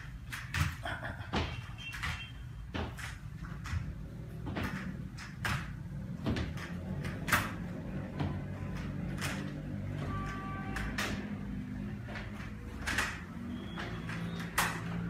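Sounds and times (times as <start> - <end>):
crutch and heel knocking on tiles: 0.0 - 15.0.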